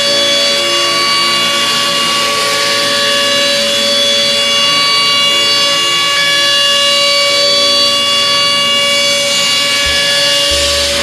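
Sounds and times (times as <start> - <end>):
milling spindle whining: 0.0 - 11.0.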